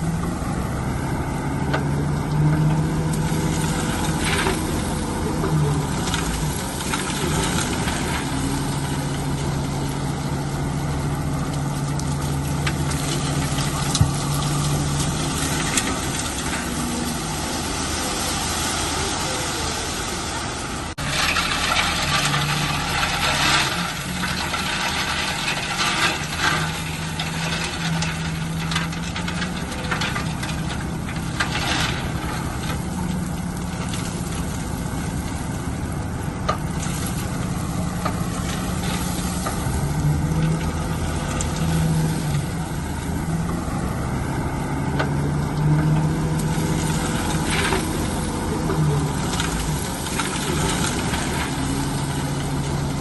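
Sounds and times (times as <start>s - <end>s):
bulldozer diesel engine working: 0.0s - 53.0s.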